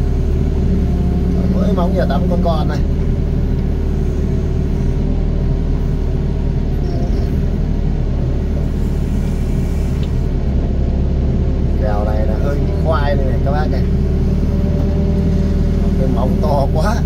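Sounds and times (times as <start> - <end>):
excavator diesel engine rumbling: 0.0 - 17.0.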